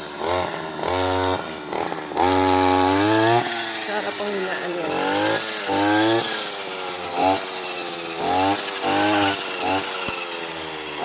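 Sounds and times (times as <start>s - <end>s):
brush cutter engine revving: 0.0s - 11.0s.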